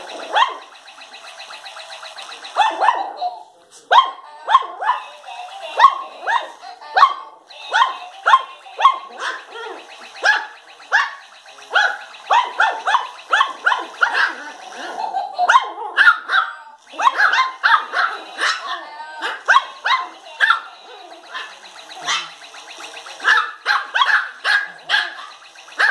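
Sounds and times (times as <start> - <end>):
puppies yapping: 0.0 - 0.8, 2.2 - 25.9.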